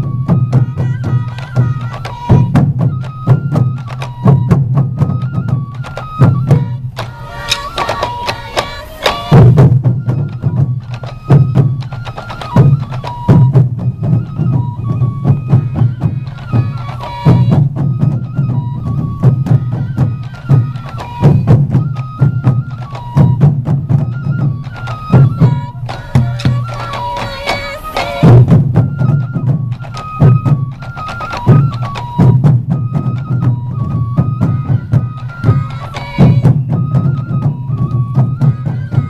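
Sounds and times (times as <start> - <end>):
bamboo flute melody: 0.0 - 39.0
taiko drums beating: 0.0 - 39.0.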